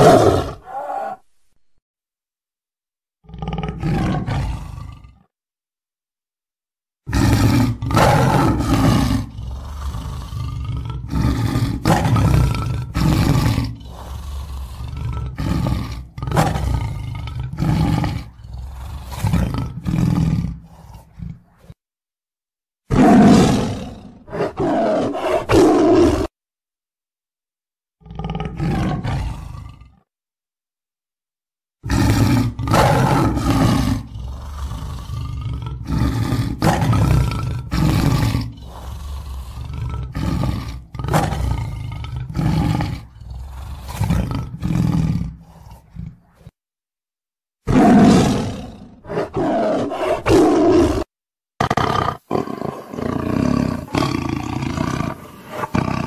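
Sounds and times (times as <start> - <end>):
tiger roaring: 0.0 - 1.3, 3.2 - 5.3, 7.0 - 21.8, 22.9 - 26.3, 28.0 - 30.0, 31.8 - 46.6, 47.6 - 56.0.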